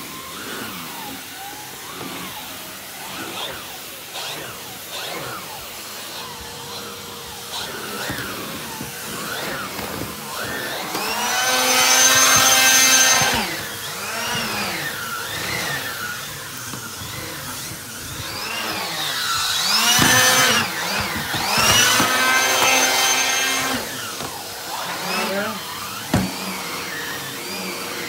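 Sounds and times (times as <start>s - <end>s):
vacuum cleaner whining: 0.0s - 28.0s.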